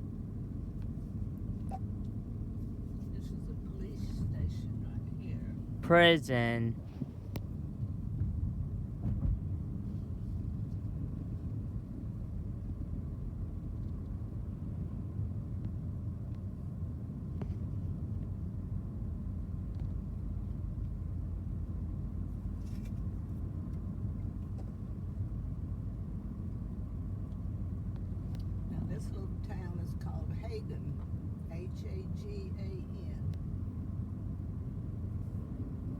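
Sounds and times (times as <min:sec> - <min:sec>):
car cabin road and engine rumble: 0:00.0 - 0:35.9.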